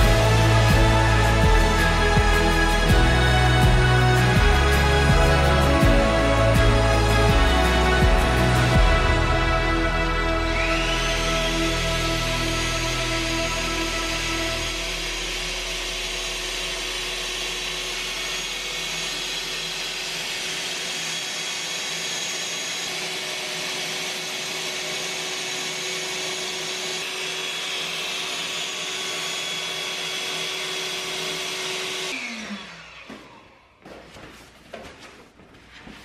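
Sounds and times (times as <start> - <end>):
electric air pump running: 0.0 - 33.9.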